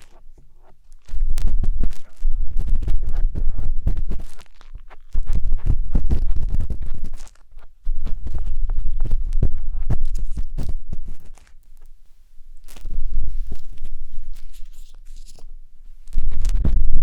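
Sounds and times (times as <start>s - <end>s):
matchstick scraping in microphone ear: 0.0s - 11.9s, 12.6s - 17.0s.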